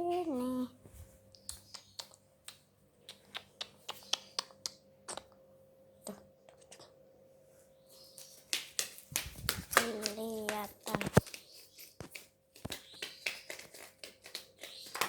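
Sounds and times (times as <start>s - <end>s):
faint steady hum: 0.0s - 12.6s.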